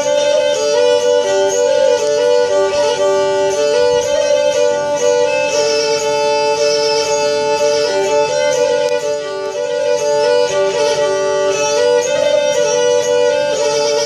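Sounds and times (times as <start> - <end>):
bowed lyra melody: 0.0 - 14.0.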